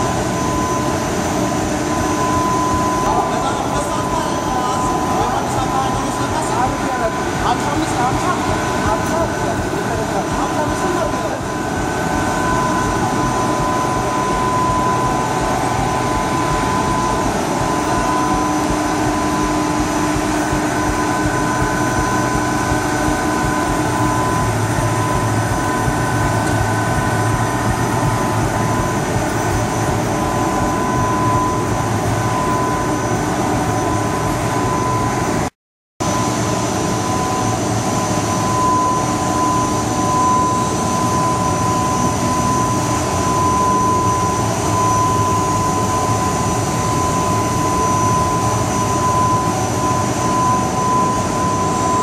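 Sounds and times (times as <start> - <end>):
drone of motors and fans: 0.0 - 52.0
machine whine: 0.0 - 52.0.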